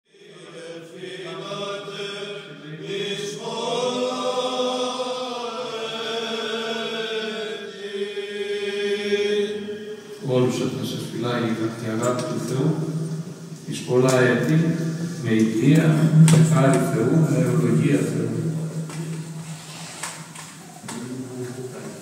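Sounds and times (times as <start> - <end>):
voices chanting held notes: 0.1 - 22.0.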